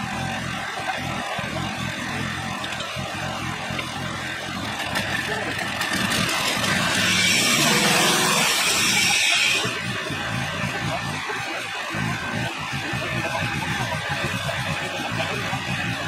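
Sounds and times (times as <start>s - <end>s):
sawmill engine running: 0.0s - 16.0s.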